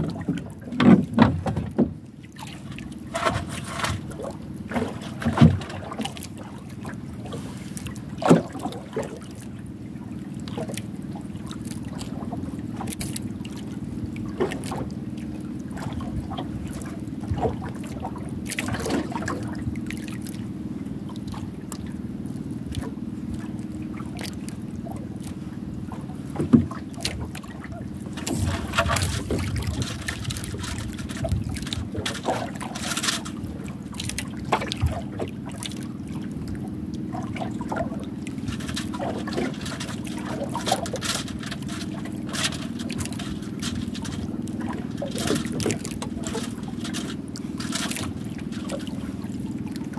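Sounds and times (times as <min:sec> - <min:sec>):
sea water washing: 0:00.0 - 0:49.9
wind: 0:00.0 - 0:49.9.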